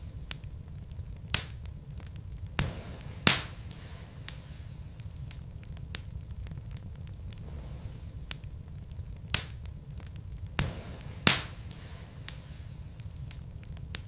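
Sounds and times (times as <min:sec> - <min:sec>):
fire pops and snaps: 0:00.0 - 0:14.0
low rumble of flames: 0:00.0 - 0:14.0.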